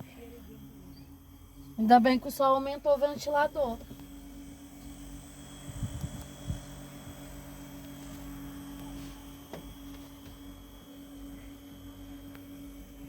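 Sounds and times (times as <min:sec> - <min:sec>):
small fan motor humming: 0:00.0 - 0:13.0.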